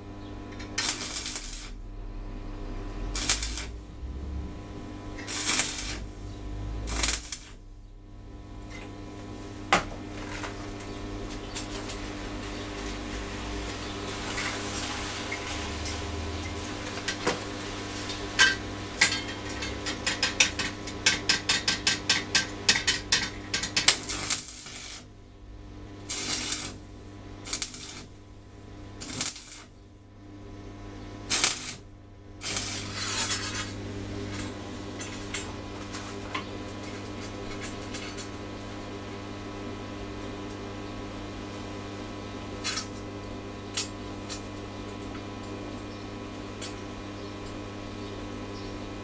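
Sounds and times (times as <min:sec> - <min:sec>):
arc welding crackle: 0:00.0 - 0:49.0
steady low hum: 0:00.0 - 0:49.0.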